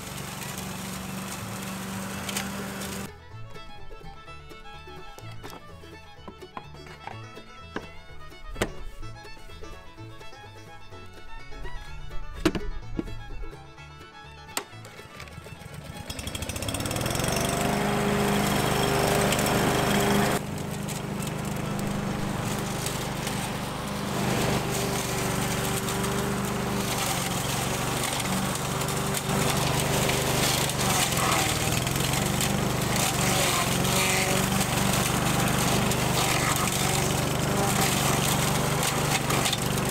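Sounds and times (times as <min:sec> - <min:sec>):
lawn mower engine running: 0:00.0 - 0:11.9, 0:14.4 - 0:39.9.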